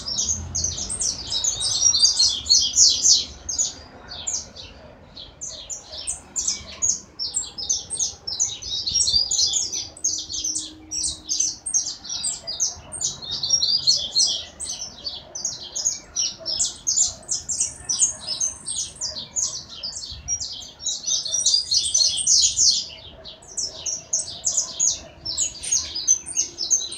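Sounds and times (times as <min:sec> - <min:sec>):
songbird singing trills: 0:00.0 - 0:26.9.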